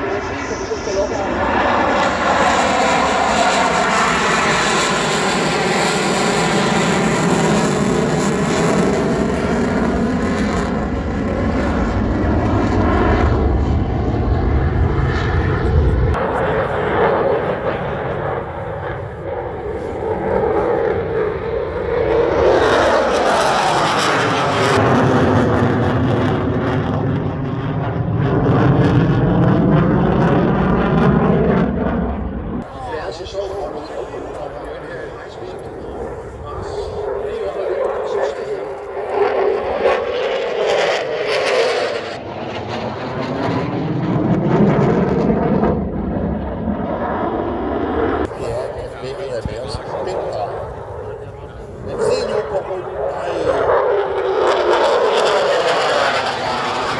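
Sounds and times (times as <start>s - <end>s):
jet engine rushing noise: 0.0s - 56.9s.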